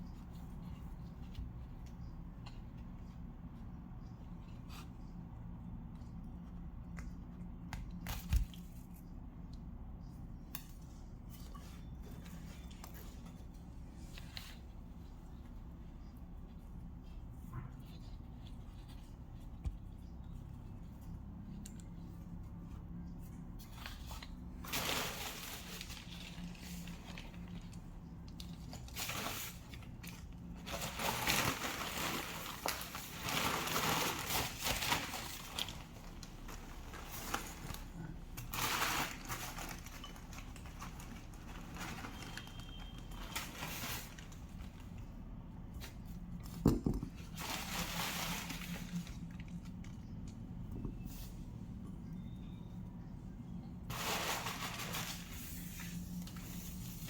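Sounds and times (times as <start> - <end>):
low steady hum: 0.0 - 57.0
rustling and crinkling: 0.0 - 57.0.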